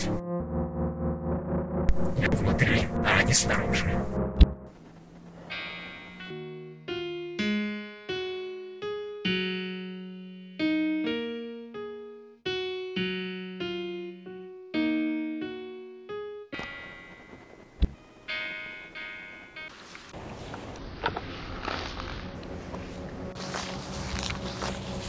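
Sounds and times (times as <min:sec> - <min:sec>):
slow electric piano melody: 0:00.0 - 0:19.8, 0:22.4 - 0:25.0.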